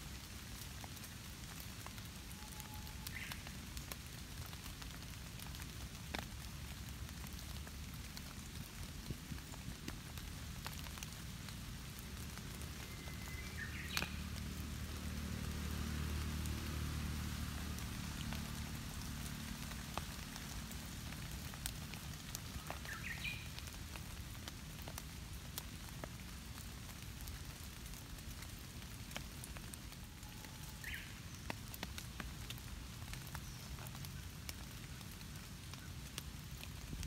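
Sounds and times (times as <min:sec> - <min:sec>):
faint low rumble: 0:00.0 - 0:37.0
light rain on leaves: 0:00.0 - 0:37.0.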